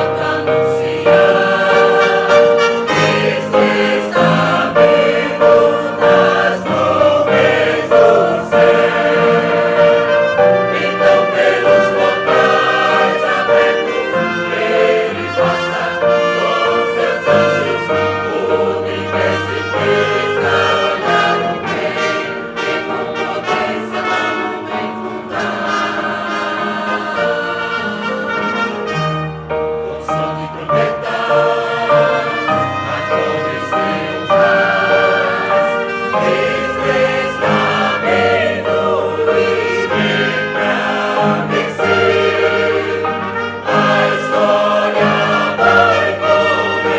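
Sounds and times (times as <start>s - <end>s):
choir singing: 0.0s - 46.9s
instrumental accompaniment: 0.0s - 46.9s.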